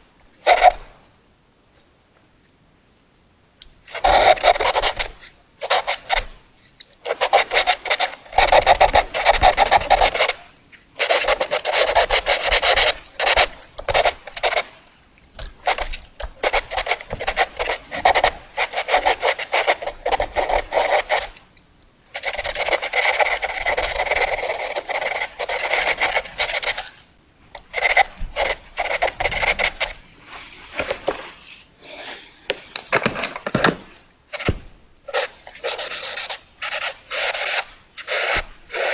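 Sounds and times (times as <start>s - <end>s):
drawing tool scratching: 0.0s - 0.9s, 3.9s - 14.8s, 15.4s - 21.4s, 22.1s - 27.0s, 27.6s - 38.9s.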